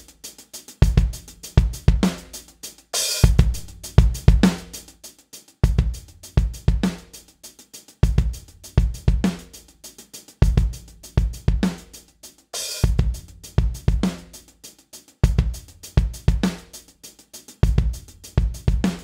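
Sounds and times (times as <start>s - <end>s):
programmed drum groove: 0.0s - 19.0s.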